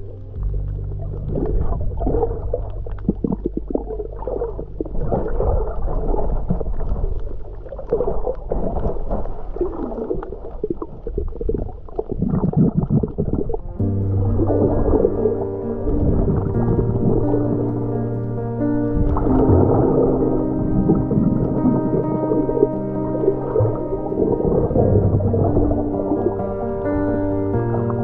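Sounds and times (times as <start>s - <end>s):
underwater gurgling and bubbling: 0.0s - 28.0s.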